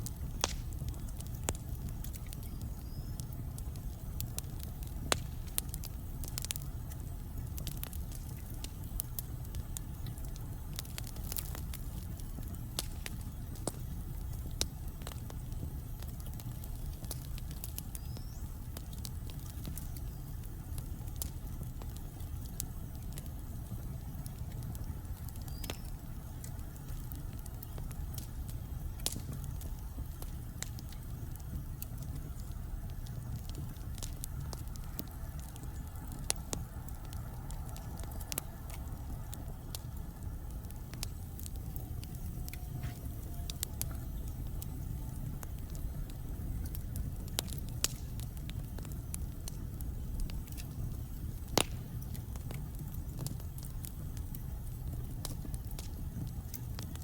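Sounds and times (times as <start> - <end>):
logs crackling and popping: 0.0 - 57.0
low fire rumble: 0.0 - 57.0.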